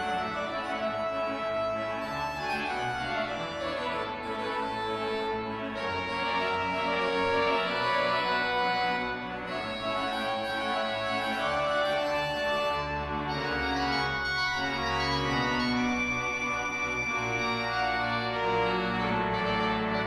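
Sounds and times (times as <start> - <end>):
deep organ pedal bass notes: 0.0 - 20.0
pipe organ chords: 0.0 - 20.0.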